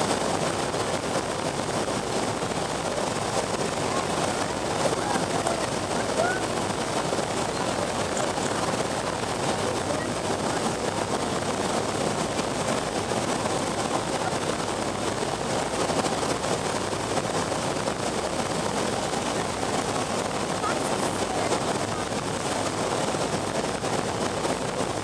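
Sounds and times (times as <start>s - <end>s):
airliner cabin engine noise: 0.0s - 25.0s
rushing air: 0.0s - 25.0s.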